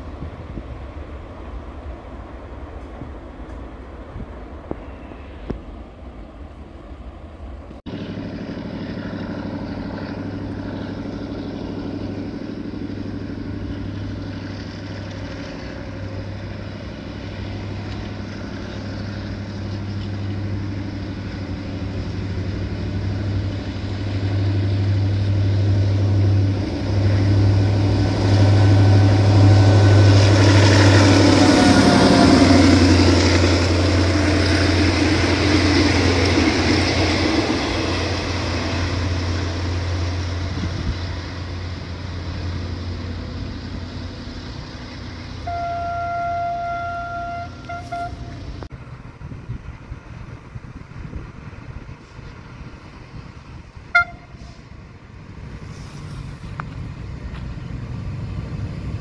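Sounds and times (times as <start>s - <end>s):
coach wheels on rails: 0.0s - 59.0s
diesel locomotive engine drone: 0.0s - 59.0s.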